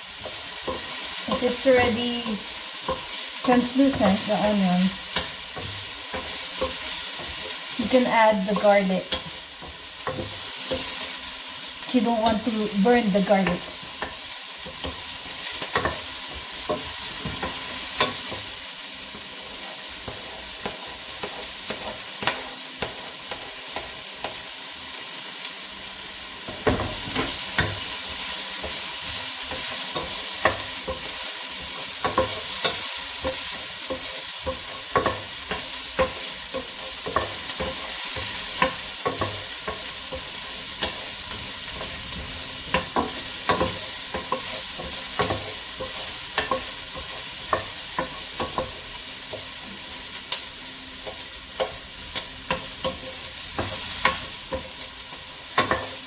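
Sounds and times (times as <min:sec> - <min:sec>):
onions sizzling in a frying pan: 0:00.0 - 0:56.0.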